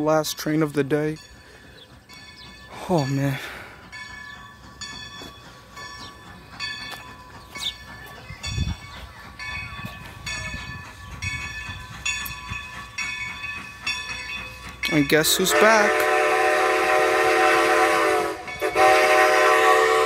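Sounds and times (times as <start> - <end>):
low rumble of locomotive: 0.0 - 20.0
steam locomotive bell ringing: 0.0 - 20.0.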